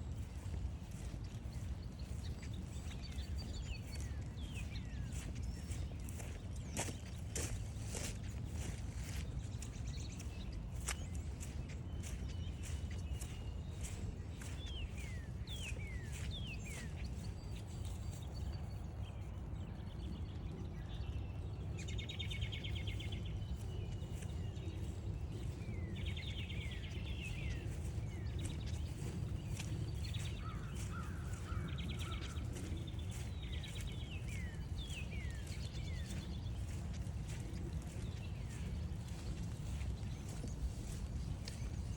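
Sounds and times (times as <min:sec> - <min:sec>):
songbirds calling: 0:00.0 - 0:41.9
wind rumble on microphone: 0:00.0 - 0:41.9.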